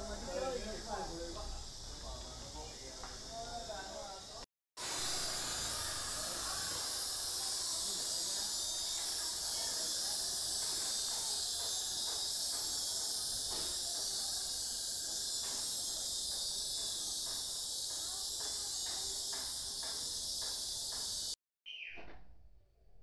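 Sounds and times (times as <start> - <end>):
insects shrilling: 0.1 - 21.4.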